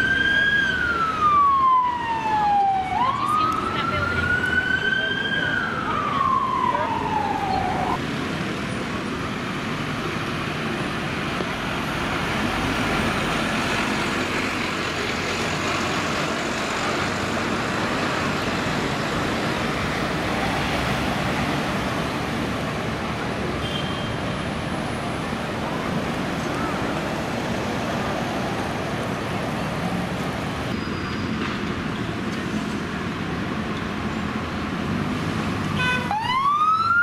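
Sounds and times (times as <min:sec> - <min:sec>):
road traffic passing: 0:00.0 - 0:37.0.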